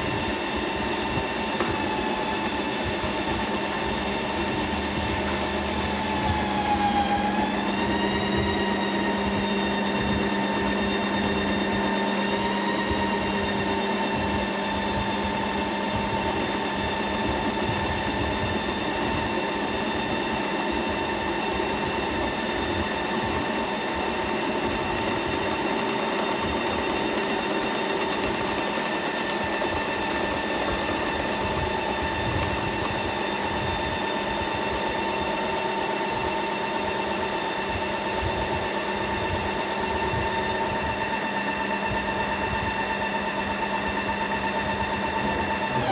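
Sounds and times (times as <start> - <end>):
rough churning of ice cream: 0.0 - 40.8
motor whine: 0.0 - 45.9.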